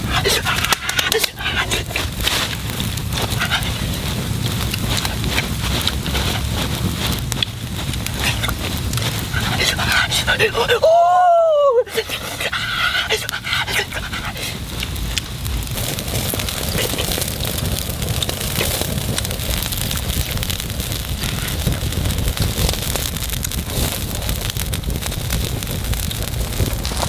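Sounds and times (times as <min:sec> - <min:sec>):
broth simmering hiss: 0:00.0 - 0:27.0
wood fire crackling: 0:00.0 - 0:27.0.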